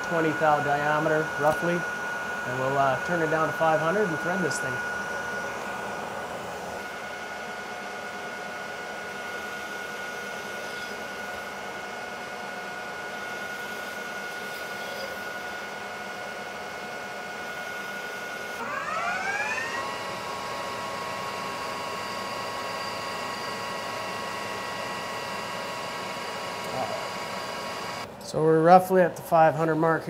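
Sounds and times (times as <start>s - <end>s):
metal lathe whining: 0.0s - 28.1s.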